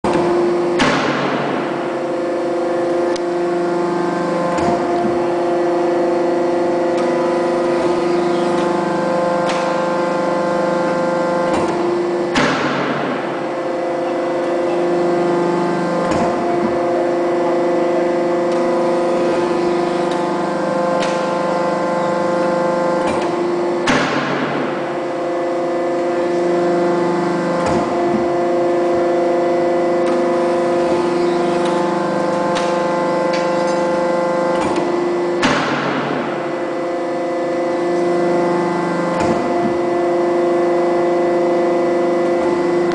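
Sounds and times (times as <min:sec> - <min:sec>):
hydraulic press humming: 0:00.0 - 0:42.9
low drone: 0:00.1 - 0:42.9.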